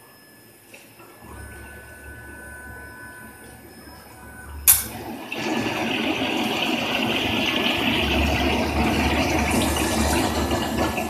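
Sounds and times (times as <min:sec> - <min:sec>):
water rushing through machine: 0:01.2 - 0:11.0.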